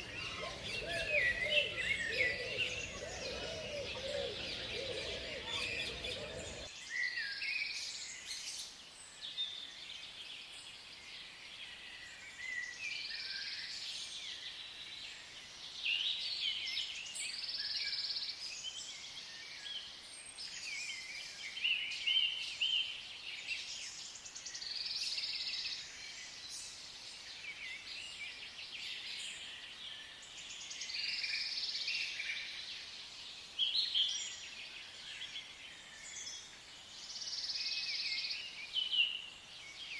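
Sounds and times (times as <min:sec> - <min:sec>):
small birds chirping in chorus: 0:00.0 - 0:39.9.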